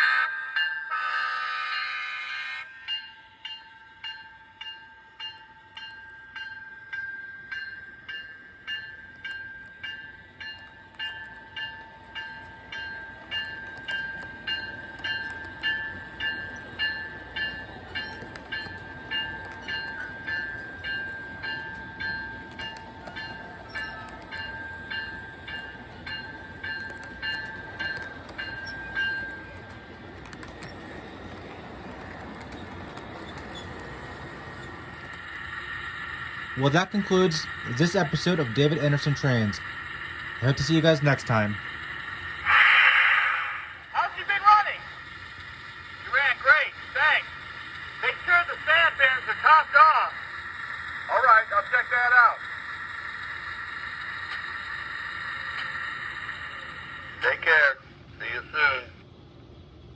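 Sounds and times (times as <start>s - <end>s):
model locomotive bell ringing: 0.0s - 42.4s, 43.7s - 58.9s
model train running on track: 0.0s - 59.9s.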